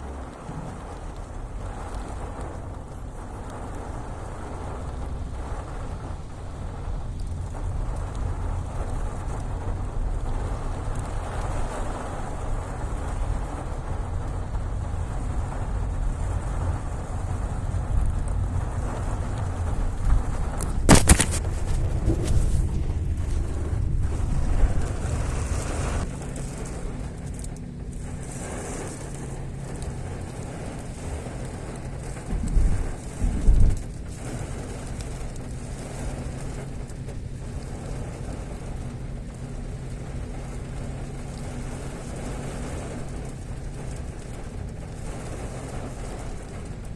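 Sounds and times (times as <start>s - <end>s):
low rumble: 0.0s - 46.8s
heavy rain falling: 0.0s - 46.9s.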